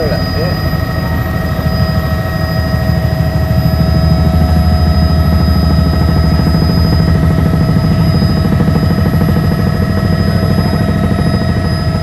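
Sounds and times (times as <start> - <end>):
helicopter engine whine: 0.0 - 12.0
helicopter rotor beat: 0.0 - 12.0.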